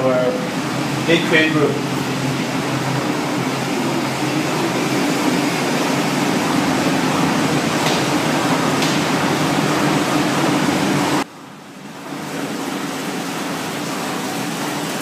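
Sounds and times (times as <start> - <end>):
factory drone with low hum: 0.0 - 15.0.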